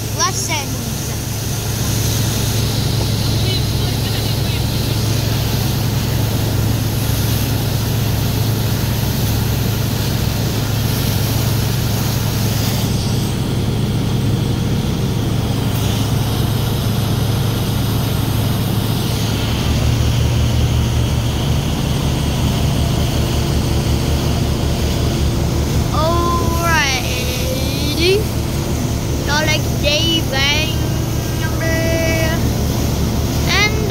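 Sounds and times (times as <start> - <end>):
churning water: 0.0 - 33.9
motorboat engine droning: 0.0 - 33.9.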